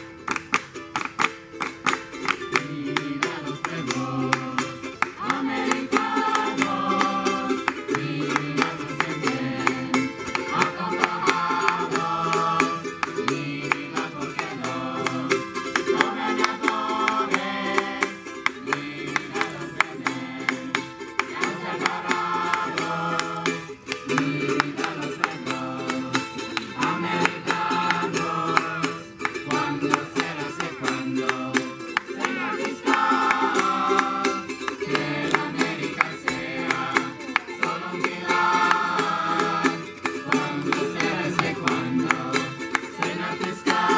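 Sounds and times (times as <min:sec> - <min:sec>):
strummed ukulele: 0:00.0 - 0:43.9
group of voices singing: 0:02.1 - 0:43.9.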